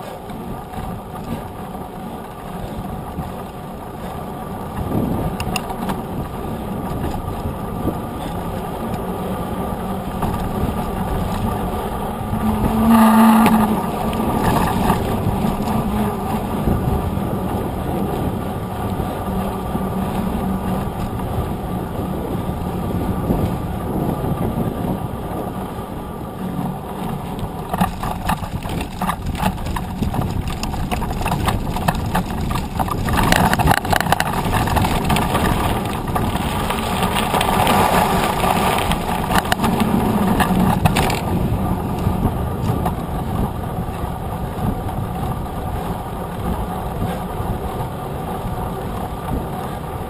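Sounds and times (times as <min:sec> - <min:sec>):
tyres crunching over gravel: 0:00.0 - 0:22.3, 0:26.4 - 0:47.3
rattling clicks over bumps: 0:00.0 - 0:25.0, 0:26.4 - 0:49.4
bike tyre noise: 0:00.0 - 0:50.0
wind on microphone: 0:00.0 - 0:50.0.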